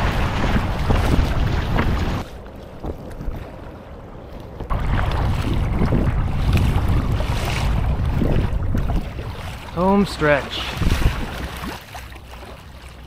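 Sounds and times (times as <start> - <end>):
wind buffeting microphone: 0.0 - 11.8
paddle splashing water: 0.0 - 13.0.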